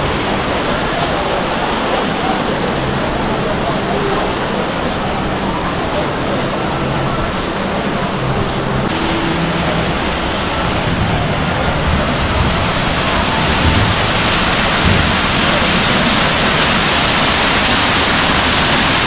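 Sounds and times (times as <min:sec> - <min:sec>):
faint murmur of voices: 0:00.0 - 0:19.0
water rushing in channel: 0:00.0 - 0:19.0.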